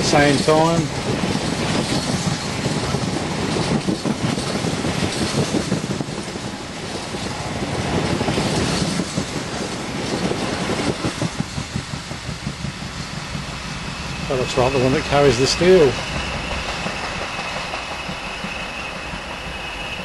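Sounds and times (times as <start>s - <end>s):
train wheels clattering over rail joints: 0.0s - 13.7s, 14.4s - 20.0s.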